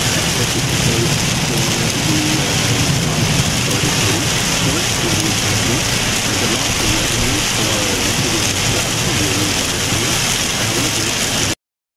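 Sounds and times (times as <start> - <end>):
heavy rain on car roof: 0.0 - 11.6.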